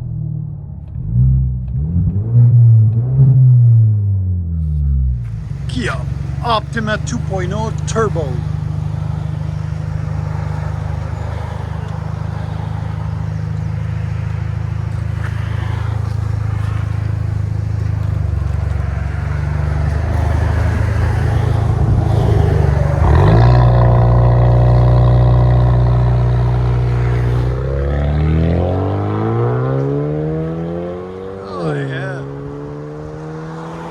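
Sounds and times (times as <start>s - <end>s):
car engine droning through exhaust: 4.8s - 33.9s.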